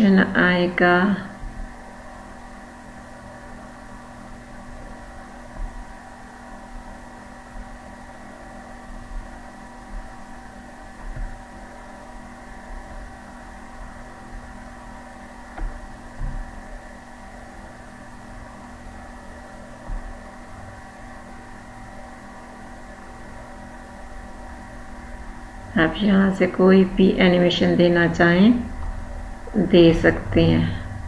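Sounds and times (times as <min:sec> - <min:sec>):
steady tonal hum: 0:00.0 - 0:31.0.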